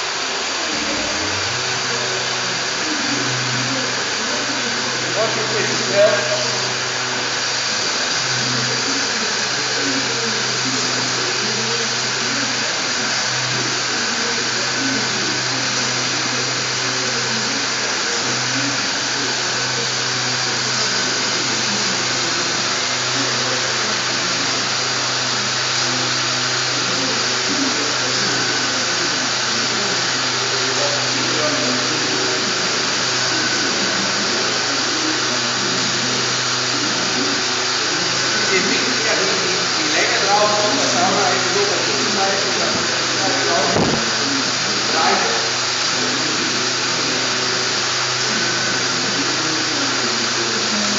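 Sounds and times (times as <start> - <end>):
machine motor hum: 0.0 - 50.9.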